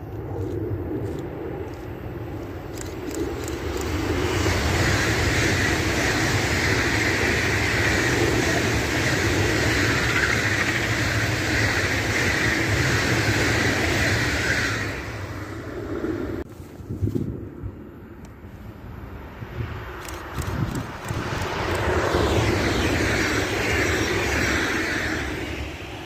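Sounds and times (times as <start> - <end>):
train passing at speed: 0.0 - 16.5, 17.8 - 26.0.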